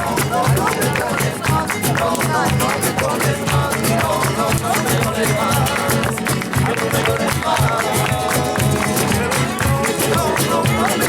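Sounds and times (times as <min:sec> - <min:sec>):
flamenco acoustic guitar strumming: 0:00.0 - 0:11.0.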